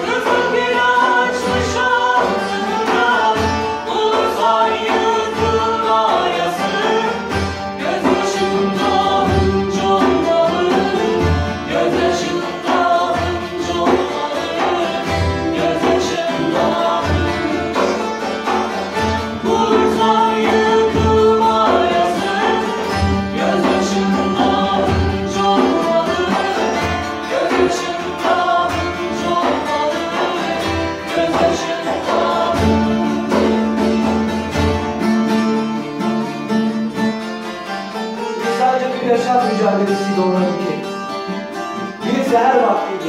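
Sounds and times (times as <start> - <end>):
men and women singing together: 0.0 - 37.3, 38.2 - 43.0
lutes and guitar strumming: 0.0 - 43.0.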